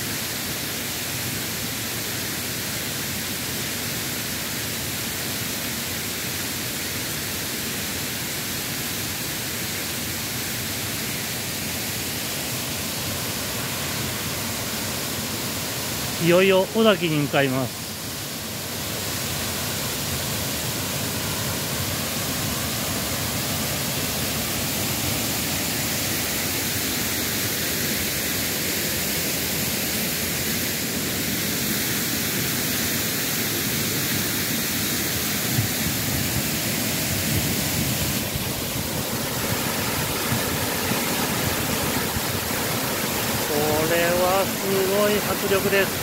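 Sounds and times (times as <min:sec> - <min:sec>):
waterfall rushing: 0:00.1 - 0:46.0.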